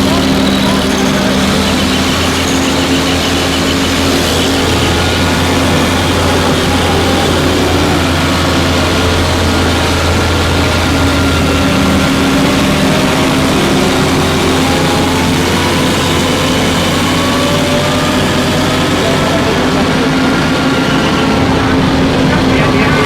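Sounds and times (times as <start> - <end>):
faint whine: 0.0 - 23.0
heavy vehicle engine running: 0.0 - 23.0.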